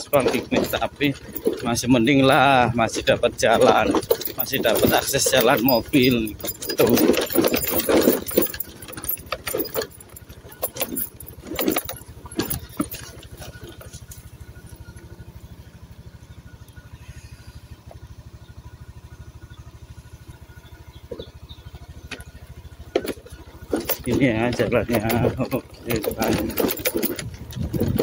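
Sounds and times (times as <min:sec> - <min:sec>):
vehicle clattering and rattling: 0:00.0 - 0:28.0
vehicle engine running: 0:00.0 - 0:28.0.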